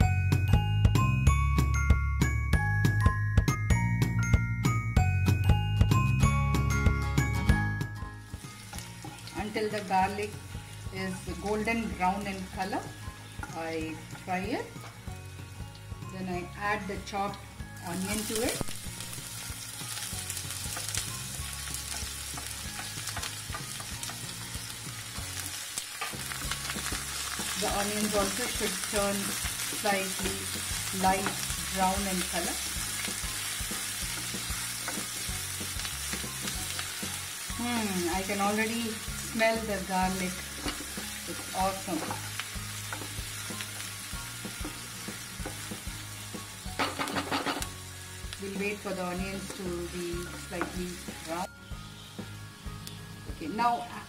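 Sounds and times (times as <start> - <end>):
onion sizzling in oil: 5.2 - 54.0.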